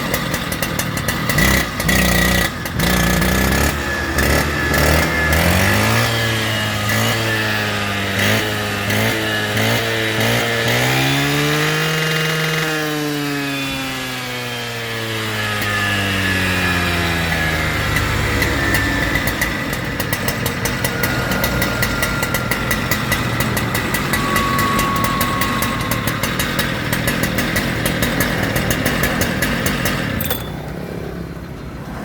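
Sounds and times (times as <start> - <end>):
power cutter engine revving: 0.0 - 31.3.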